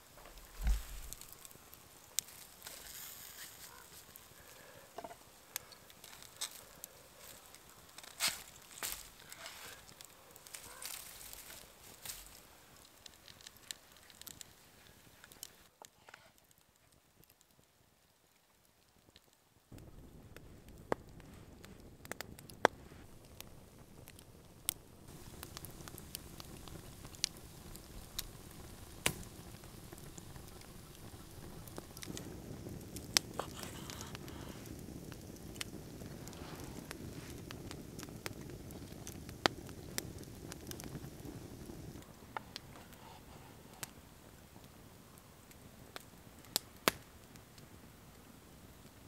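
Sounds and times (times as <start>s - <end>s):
campfire crackling: 0.0s - 49.0s.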